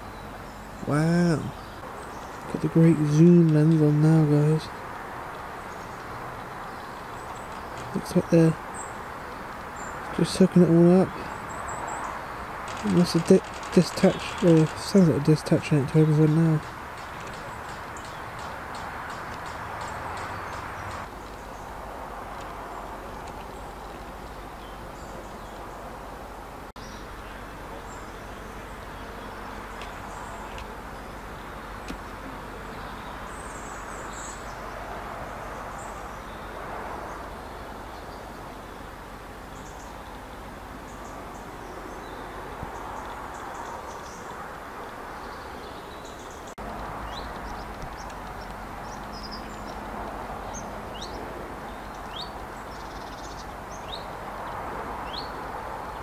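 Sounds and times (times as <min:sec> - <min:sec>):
small birds chirping: 0:00.0 - 0:26.0, 0:26.7 - 0:56.0.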